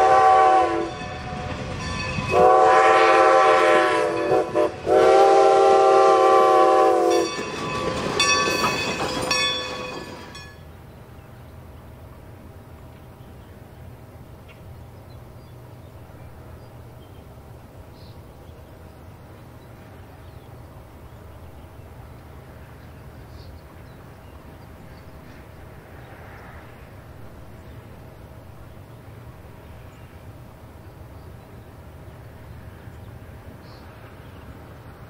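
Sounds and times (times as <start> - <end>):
distant steam locomotive rumble: 0.0 - 35.0.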